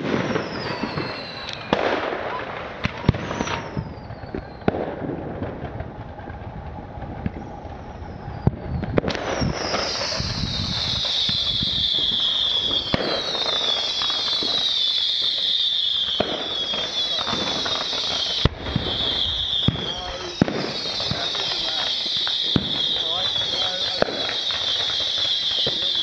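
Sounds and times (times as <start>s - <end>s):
fireworks shells bursting: 0.0s - 26.0s
whistling fireworks: 0.0s - 26.0s.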